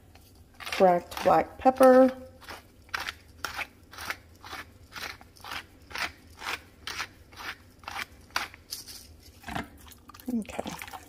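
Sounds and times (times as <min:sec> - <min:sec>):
pepper mill grinding: 0:00.1 - 0:09.5.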